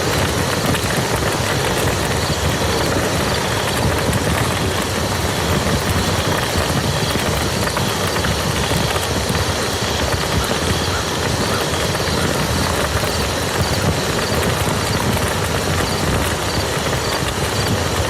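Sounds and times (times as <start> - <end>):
rain on a muddy field: 0.0 - 18.0.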